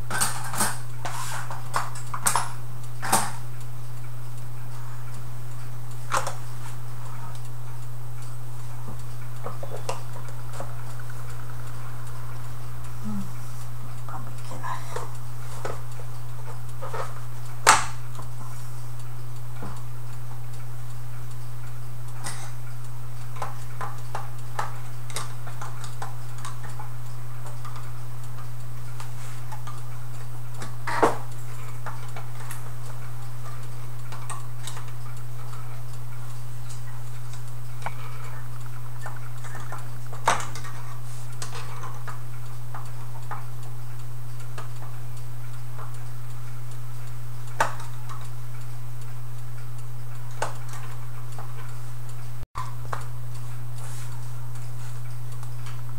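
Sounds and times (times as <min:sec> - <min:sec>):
metallic clicks of clock parts: 0:00.0 - 0:55.9
steady low hum: 0:00.0 - 0:55.9.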